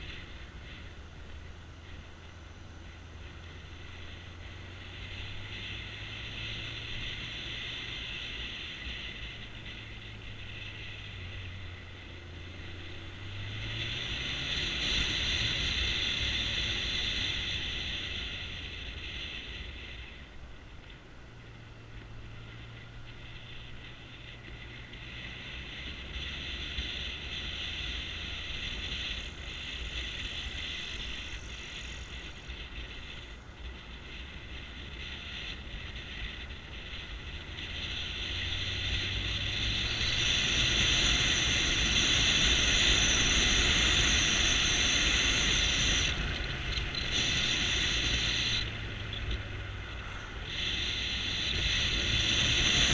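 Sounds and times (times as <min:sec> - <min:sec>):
motorbike engine: 0:00.0 - 0:52.9
wind and road noise: 0:00.0 - 0:52.9.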